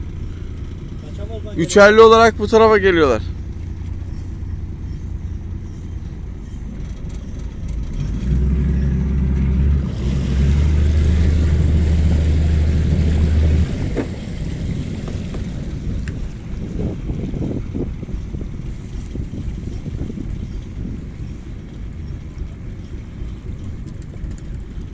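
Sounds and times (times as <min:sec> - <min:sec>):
boat motor running: 0:00.0 - 0:24.9
wind buffeting microphone: 0:00.0 - 0:24.9.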